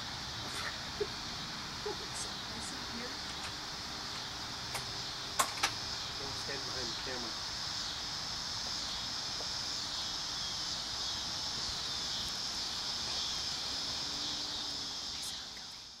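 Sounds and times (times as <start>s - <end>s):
insects singing drone: 0.0s - 16.0s.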